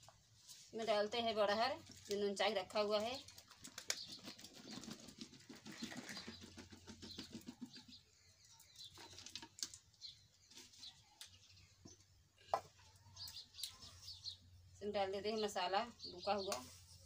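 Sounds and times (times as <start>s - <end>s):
birds calling faintly: 0.1s - 17.0s.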